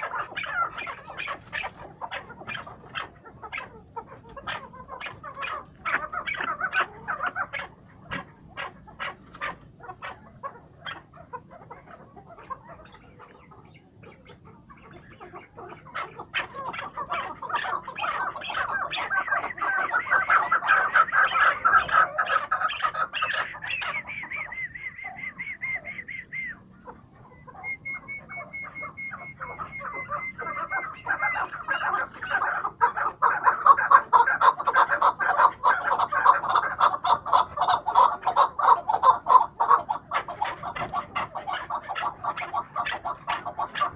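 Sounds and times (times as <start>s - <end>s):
partridges calling: 0.0s - 43.9s.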